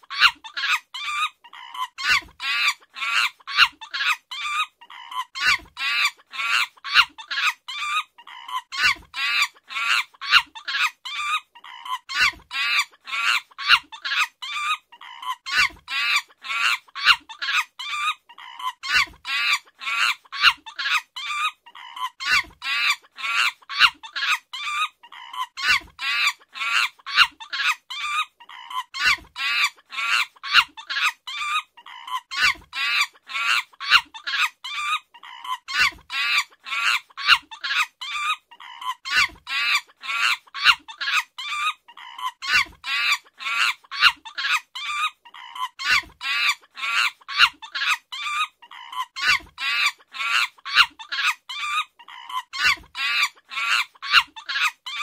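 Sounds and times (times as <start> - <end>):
chimpanzee calls: 0.0 - 55.0.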